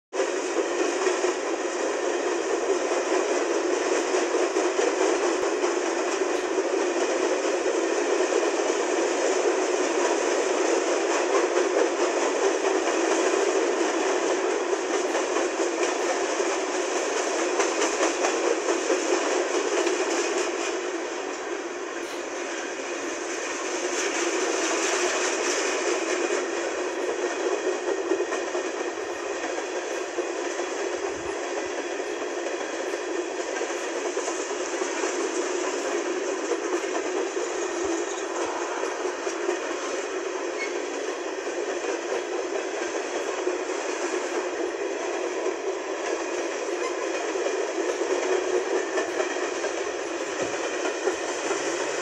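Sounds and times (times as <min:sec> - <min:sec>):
freight train wheels rumbling: 0:00.1 - 0:52.0.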